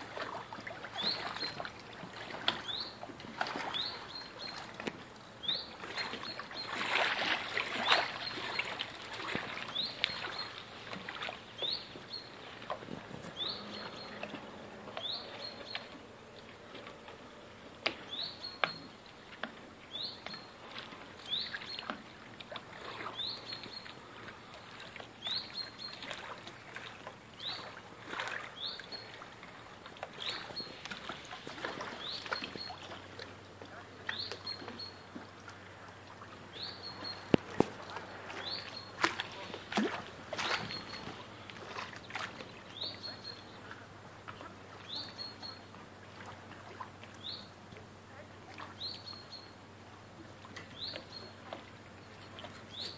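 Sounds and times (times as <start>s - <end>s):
waves lapping against boat hulls: 0.0s - 52.9s.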